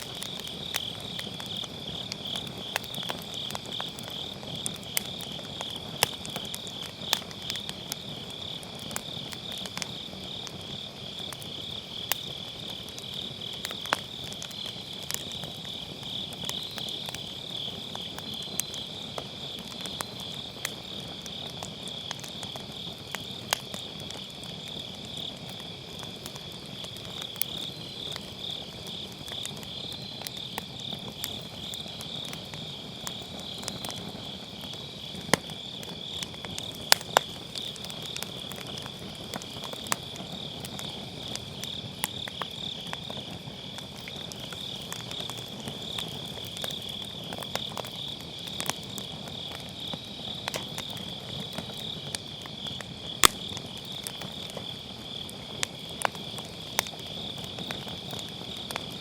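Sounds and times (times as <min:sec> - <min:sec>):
insects chorus: 0:00.0 - 0:59.0
wood fire crackling: 0:00.0 - 0:59.0.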